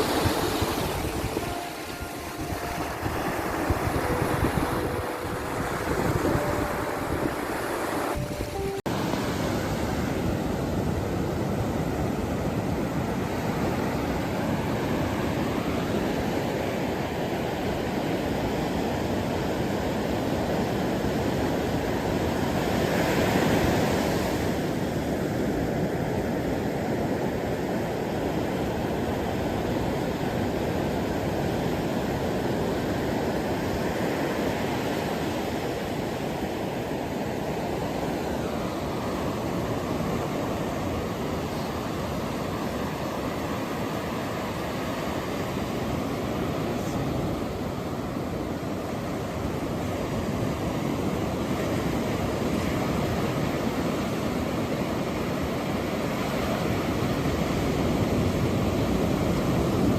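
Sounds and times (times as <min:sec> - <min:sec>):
ocean waves washing: 0:00.0 - 0:59.9.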